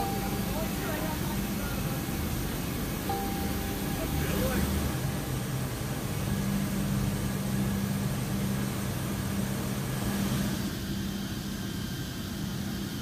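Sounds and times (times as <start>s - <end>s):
aircraft engines droning: 0.0s - 13.0s.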